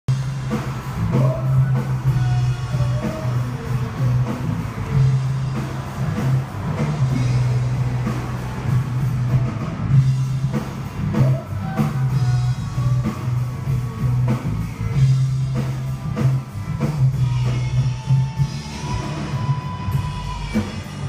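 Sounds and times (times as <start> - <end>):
faint electric guitar: 0.1 - 21.0
heavy bass line: 0.1 - 21.0
muffled rock band playing: 0.1 - 21.0.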